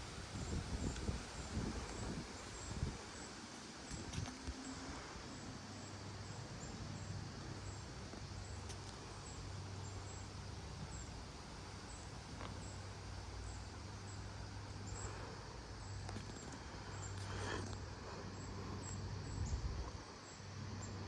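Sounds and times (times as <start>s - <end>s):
insect chirping faintly: 0.0s - 21.0s
wind: 0.0s - 21.0s.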